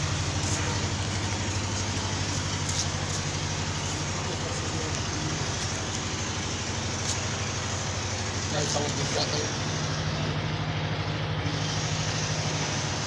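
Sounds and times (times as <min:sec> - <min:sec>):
constant noisy hiss: 0:00.0 - 0:13.0
low mechanical hum: 0:00.0 - 0:13.0.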